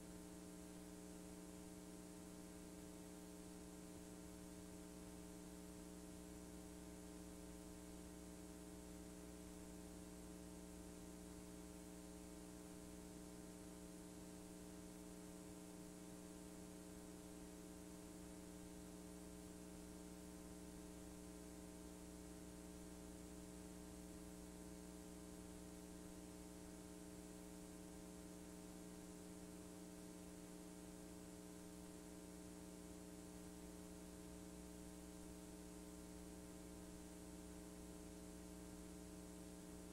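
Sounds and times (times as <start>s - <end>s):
faint electrical hum with hiss: 0.0s - 39.9s.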